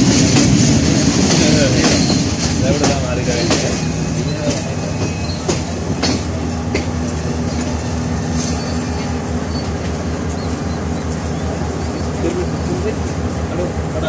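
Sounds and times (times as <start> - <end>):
train engine drone and rumble: 0.0 - 14.0.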